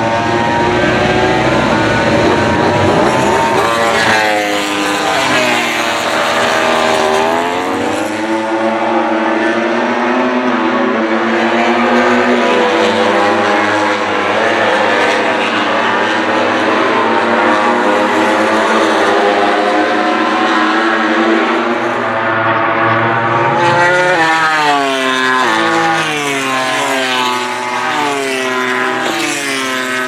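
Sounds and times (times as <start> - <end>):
racing motorcycles passing: 0.0 - 30.0.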